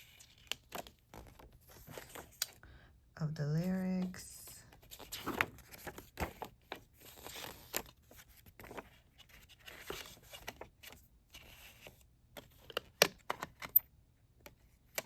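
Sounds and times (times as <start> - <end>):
paper booklet rustling: 0.0 - 2.5, 3.6 - 13.4.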